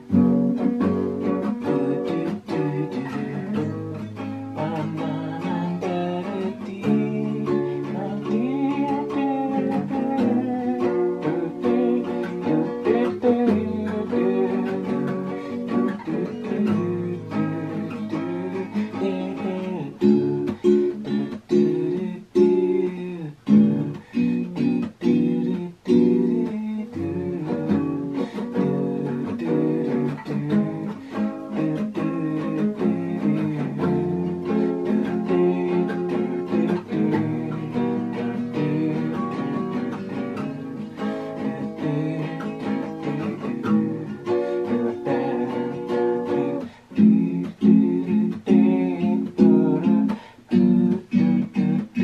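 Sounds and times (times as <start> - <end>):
classical guitar strumming chords: 0.0 - 52.0.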